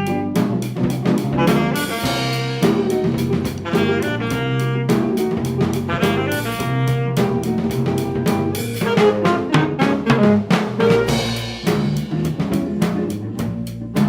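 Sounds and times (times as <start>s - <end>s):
jazz-funk band playing: 0.0s - 14.0s.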